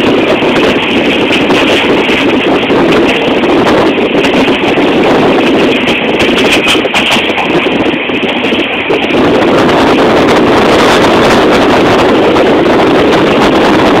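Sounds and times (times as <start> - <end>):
train running at speed: 0.0 - 14.0
wind buffeting microphone: 0.0 - 14.0.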